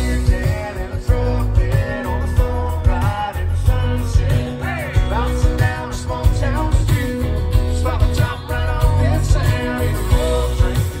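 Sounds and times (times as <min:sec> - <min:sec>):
country band playing live: 0:00.0 - 0:11.0
steady drum beat: 0:00.0 - 0:11.0.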